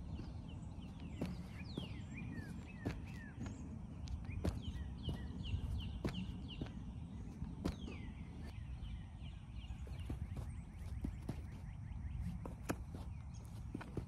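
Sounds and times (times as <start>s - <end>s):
feet landing on artificial turf: 0.0s - 8.6s, 9.8s - 14.0s
birds chirping: 0.0s - 14.0s.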